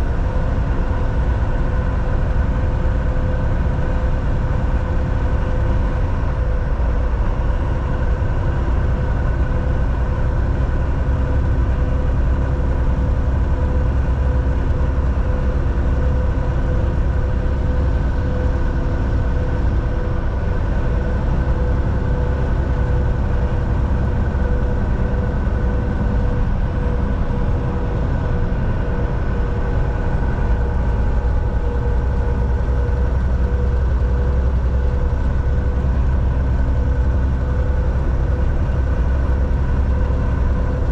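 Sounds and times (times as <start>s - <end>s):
road rumble: 0.0s - 40.9s
truck engine drone from cab: 0.0s - 40.9s.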